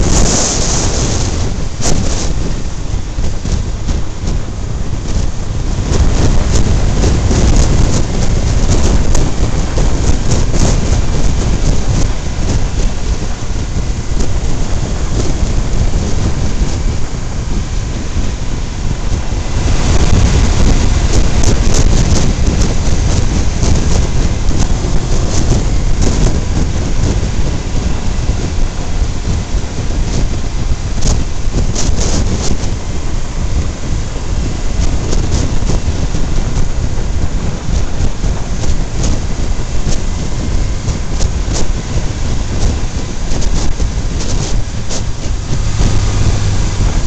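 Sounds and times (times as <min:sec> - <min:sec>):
tyre and road noise: 0:00.0 - 0:47.0
wind buffeting microphone: 0:00.0 - 0:47.0.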